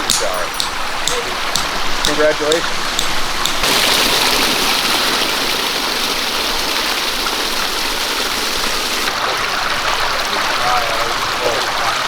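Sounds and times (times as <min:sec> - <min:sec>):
waterfall splashing: 0:00.0 - 0:12.0.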